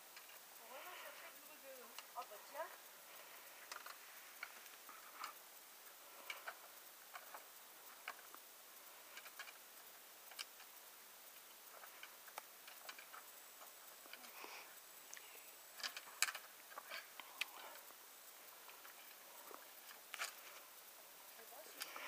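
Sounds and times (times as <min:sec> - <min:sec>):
quiet hiss: 0:00.0 - 0:22.0.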